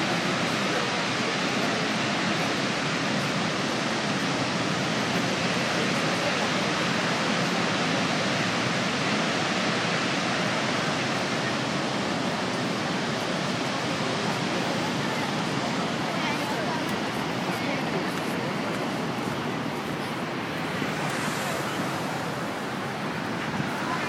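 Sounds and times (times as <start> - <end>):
rush of falling water: 0.0 - 24.0.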